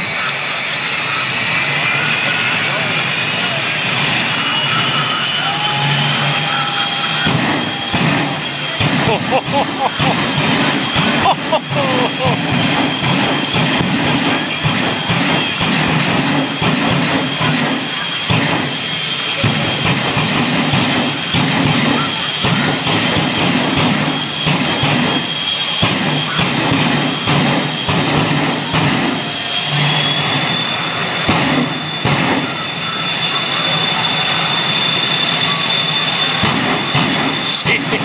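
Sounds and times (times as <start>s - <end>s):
jet engines with turbine whine: 0.0s - 9.0s, 12.4s - 37.4s.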